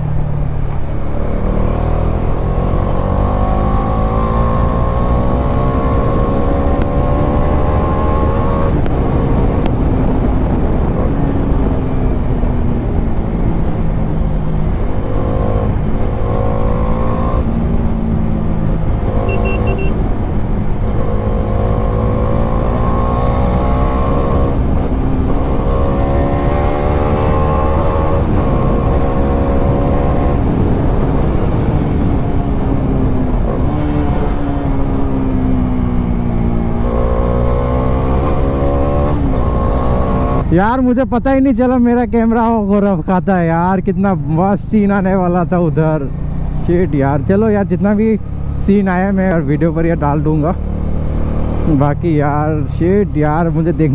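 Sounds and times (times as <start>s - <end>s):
motorcycle engine revving through gears: 0.0s - 40.6s, 45.8s - 53.9s.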